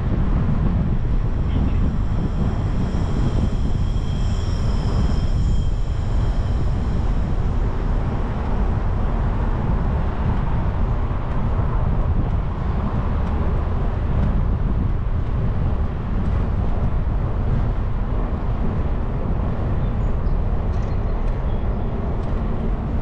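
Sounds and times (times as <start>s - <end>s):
bicycle tyre and road noise: 0.0s - 23.0s
wind rumble on microphone: 0.0s - 23.0s.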